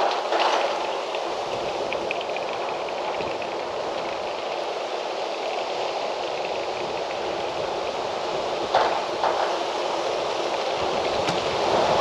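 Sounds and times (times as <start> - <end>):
wind rushing through trees: 0.0 - 12.0.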